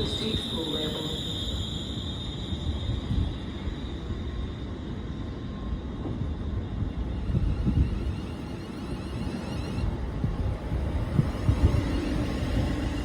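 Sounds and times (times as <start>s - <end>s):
low rumble of trains: 0.0s - 13.0s.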